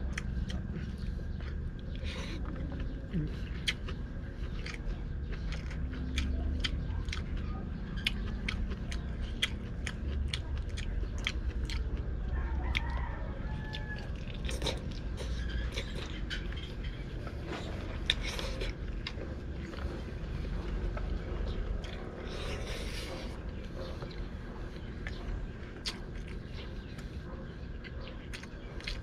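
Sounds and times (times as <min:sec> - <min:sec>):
low background rumble: 0:00.0 - 0:29.0
person chewing with wet smacks: 0:00.0 - 0:29.0.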